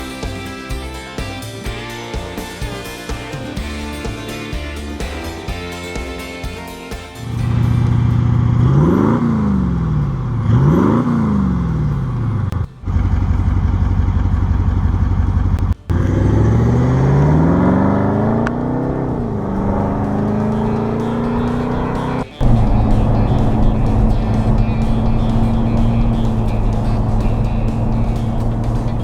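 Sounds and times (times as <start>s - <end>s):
diesel engine idling and revving: 0.0s - 29.0s.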